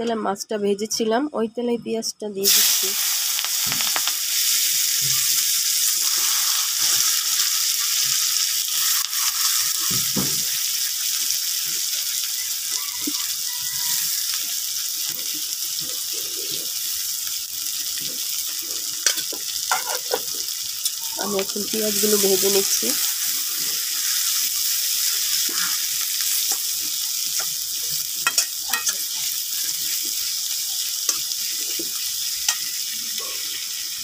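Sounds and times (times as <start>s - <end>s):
onions sizzling in hot oil: 2.4s - 34.0s.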